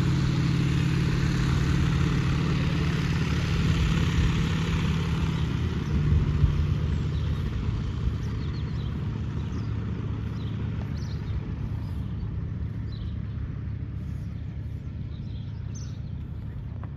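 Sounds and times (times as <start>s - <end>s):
propeller aircraft engine drone: 0.0s - 16.9s.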